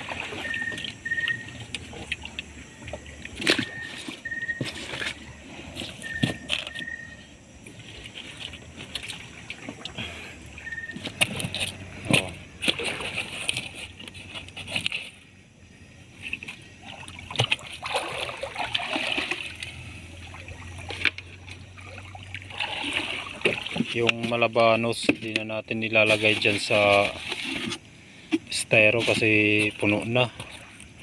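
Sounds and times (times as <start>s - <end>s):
wet fish splashing and rustling: 0.0s - 31.0s.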